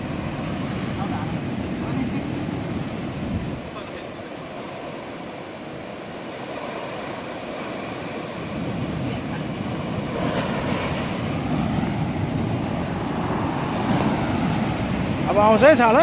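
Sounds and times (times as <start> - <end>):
surf breaking on shore: 0.0 - 16.0
wind on microphone: 0.0 - 16.0.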